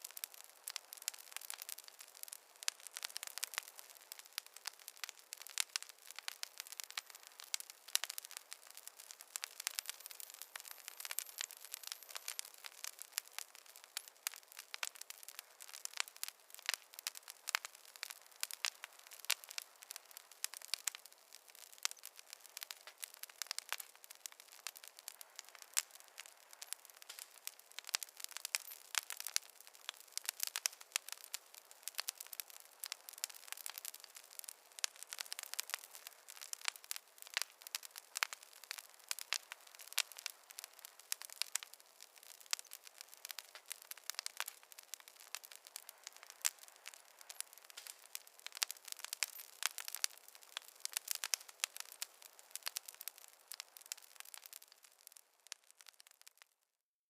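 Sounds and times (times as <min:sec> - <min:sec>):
wood fire crackling and popping: 0:00.0 - 0:56.6.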